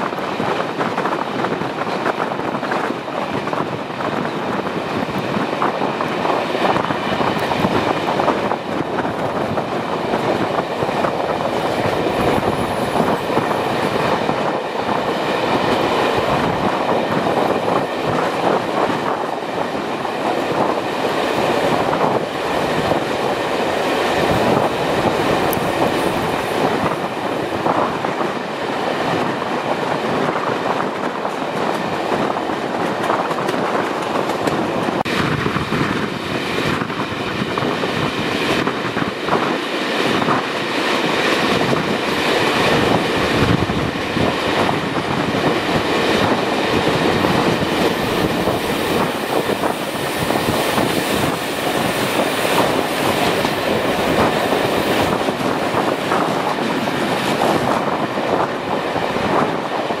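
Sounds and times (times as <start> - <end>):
air rushing past train: 0.0 - 60.0
train wheels clicking on rails: 0.0 - 60.0.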